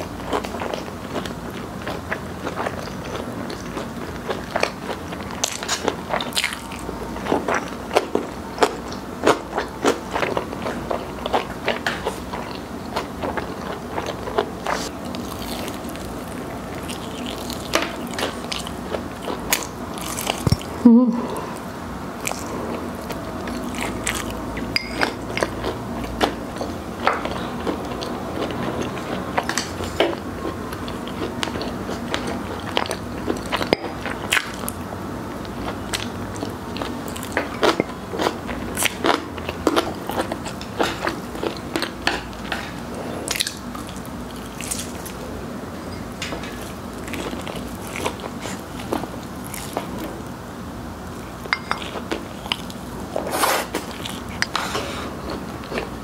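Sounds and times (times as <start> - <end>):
chewing and crunching fried chicken: 0.0 - 56.0.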